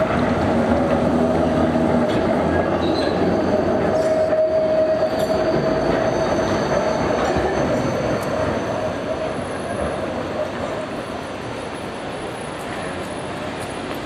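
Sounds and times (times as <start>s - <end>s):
rail vehicle rumbling: 0.0s - 14.0s
wheels squealing on rails: 0.0s - 14.0s.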